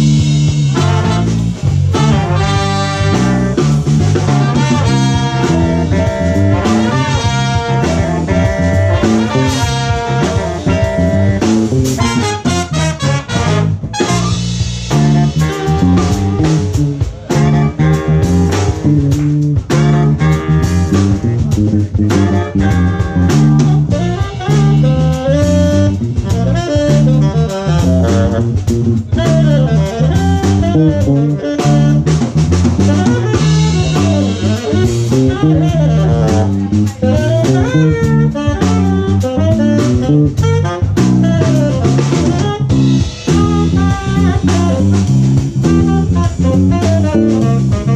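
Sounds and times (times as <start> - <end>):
drum kit: 0.0 - 47.9
horn band playing jazz-funk: 0.0 - 47.9
low bass line: 0.0 - 47.9.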